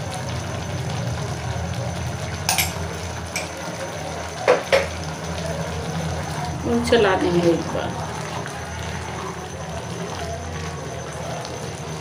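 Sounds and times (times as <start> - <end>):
pressure cooker simmering hum: 0.0 - 12.0.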